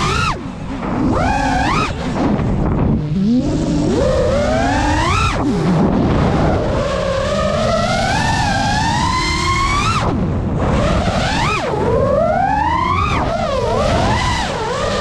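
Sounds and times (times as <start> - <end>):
drone motors whining: 0.0 - 15.0
wind rumble: 0.0 - 15.0.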